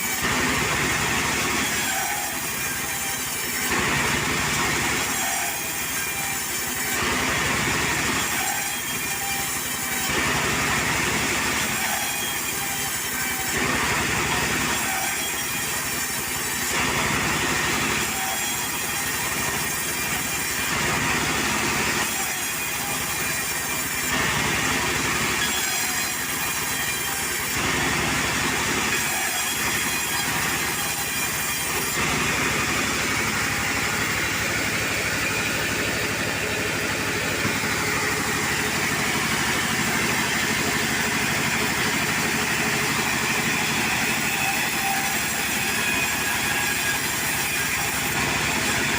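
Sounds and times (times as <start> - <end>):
sawmill engine and saw: 0.0 - 48.9.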